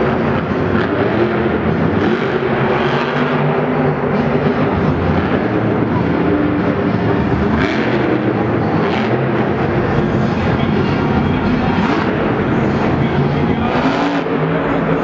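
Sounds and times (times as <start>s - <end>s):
truck engine revving loudly: 0.0s - 15.0s.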